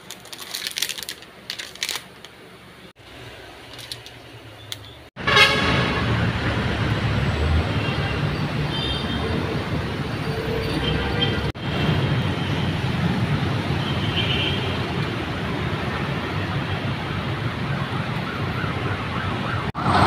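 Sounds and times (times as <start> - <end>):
city road traffic: 0.0 - 20.0.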